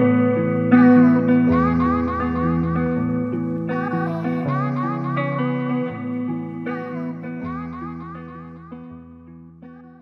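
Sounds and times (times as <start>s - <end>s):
guitar: 0.0s - 10.0s.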